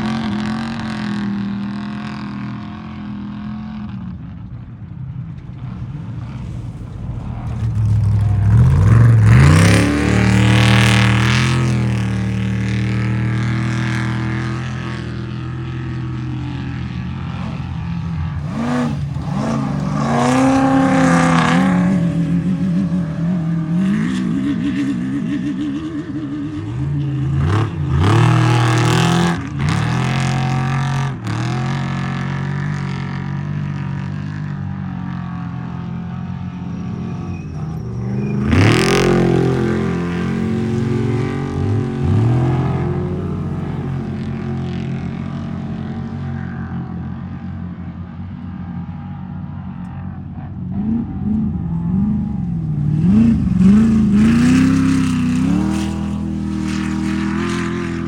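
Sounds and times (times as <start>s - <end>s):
race truck engines revving: 0.0s - 58.0s.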